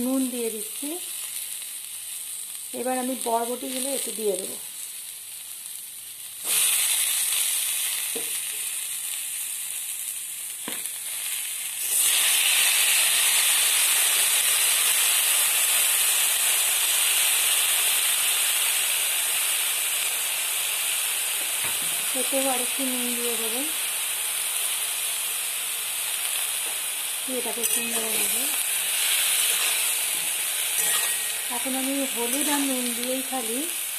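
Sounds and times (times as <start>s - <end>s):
vegetables sizzling in hot oil: 0.0s - 33.9s.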